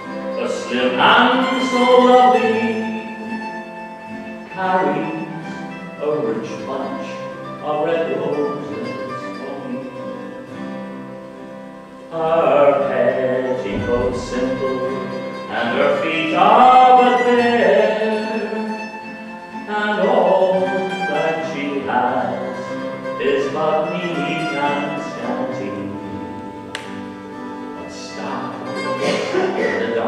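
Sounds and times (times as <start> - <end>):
mandolin playing: 0.0 - 30.0
man singing: 0.3 - 3.4, 4.5 - 9.9, 12.1 - 18.8, 19.6 - 26.4, 27.8 - 30.0.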